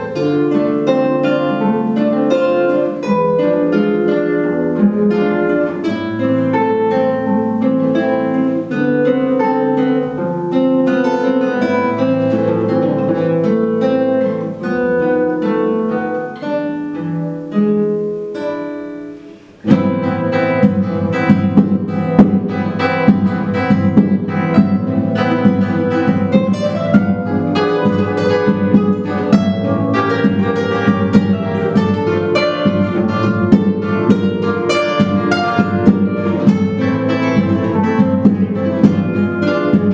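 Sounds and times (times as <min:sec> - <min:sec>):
plucked classical guitar melody: 0:00.0 - 0:39.9
rapid flamenco guitar strumming: 0:00.0 - 0:39.9.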